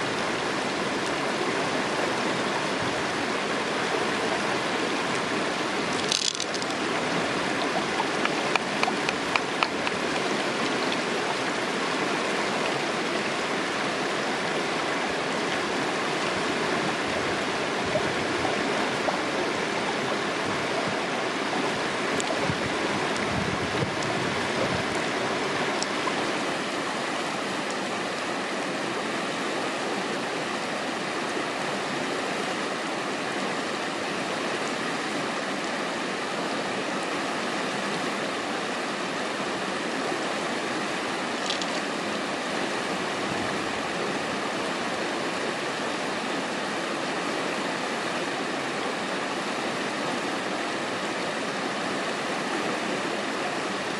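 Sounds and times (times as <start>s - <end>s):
stream over rocks: 0.0s - 53.9s.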